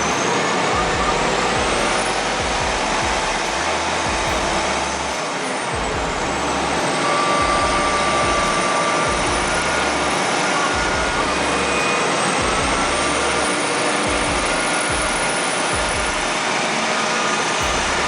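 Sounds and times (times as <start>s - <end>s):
heavy machinery engine running: 0.0s - 18.0s.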